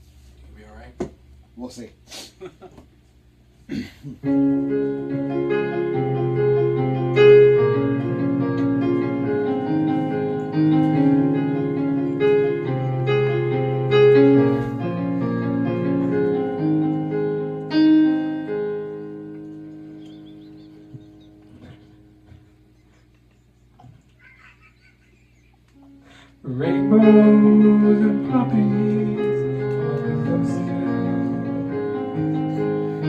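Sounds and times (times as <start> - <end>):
slow piano melody: 4.2 - 23.3, 24.2 - 33.0.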